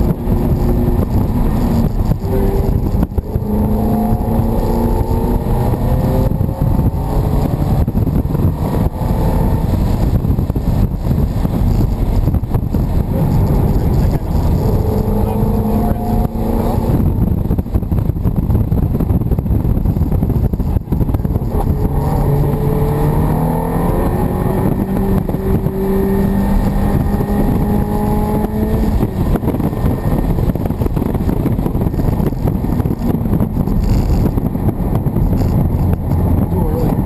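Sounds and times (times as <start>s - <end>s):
car engine from inside cabin: 0.0s - 37.0s
road and wind noise: 0.0s - 37.0s.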